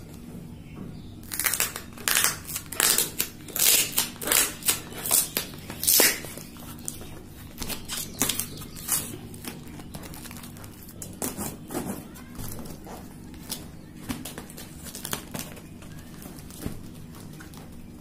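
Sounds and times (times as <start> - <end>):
cardboard and plastic crinkling and ripping: 1.2 - 18.0.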